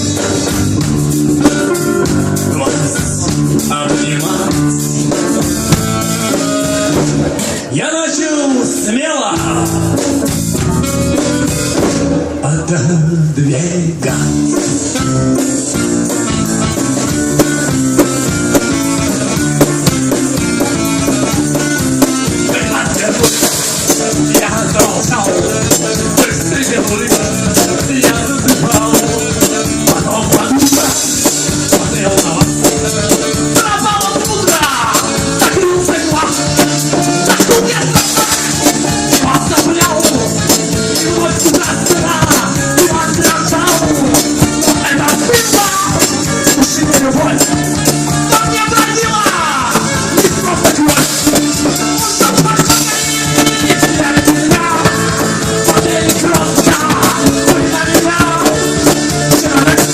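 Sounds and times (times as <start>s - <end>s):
steady drum beat: 0.0s - 7.8s, 9.3s - 12.5s, 14.0s - 59.9s
guitar: 0.0s - 59.9s
live band playing: 0.0s - 59.9s
melodic lead line: 0.0s - 59.9s.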